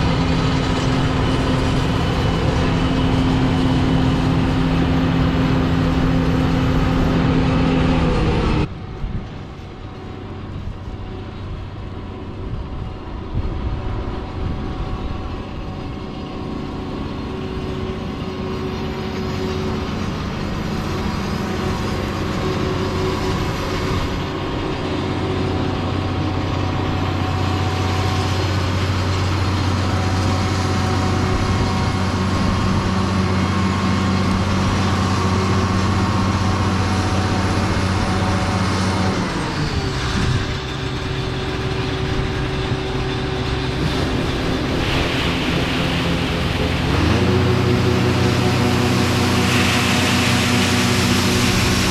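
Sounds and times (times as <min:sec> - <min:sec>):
combine harvester humming: 0:00.0 - 0:51.9.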